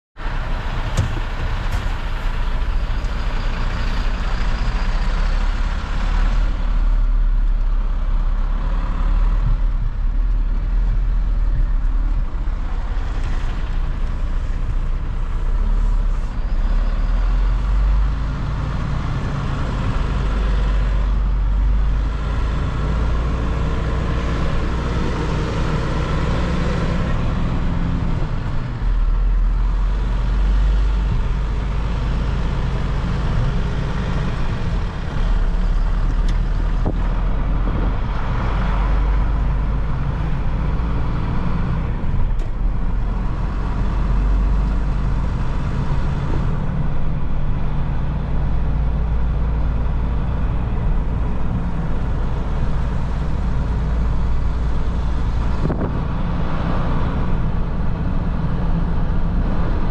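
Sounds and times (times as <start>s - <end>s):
truck diesel engine running: 0.2s - 59.9s.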